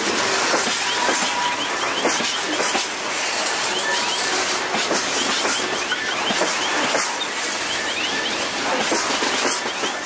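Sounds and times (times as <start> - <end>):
high squeaks from wagon wheels: 0.6 - 2.8, 3.5 - 10.0.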